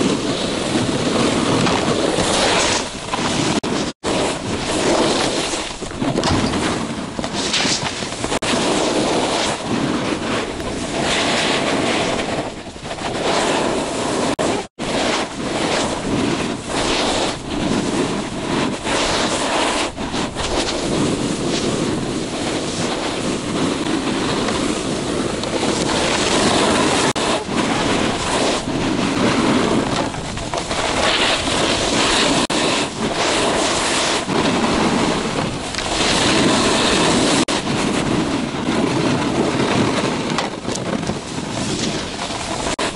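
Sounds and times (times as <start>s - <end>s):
snowboard scraping snow: 0.0s - 42.9s
wind over microphone: 0.0s - 42.9s.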